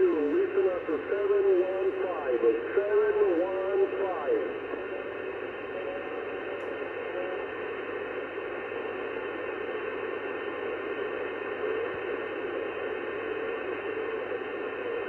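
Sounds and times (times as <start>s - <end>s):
radio band noise hiss: 0.0s - 15.0s.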